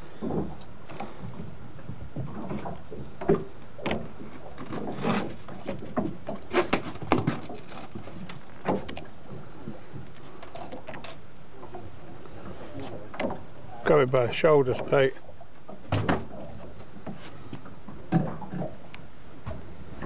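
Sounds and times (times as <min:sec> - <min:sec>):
knocks and clunks on boat deck: 0:00.0 - 0:20.0.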